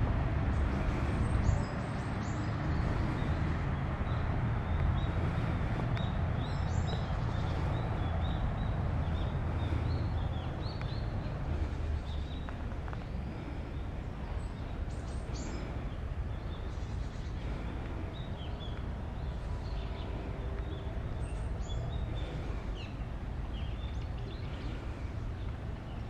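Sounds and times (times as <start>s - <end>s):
birds chirping: 0.0s - 26.0s
walking ambience rumble: 0.0s - 26.0s.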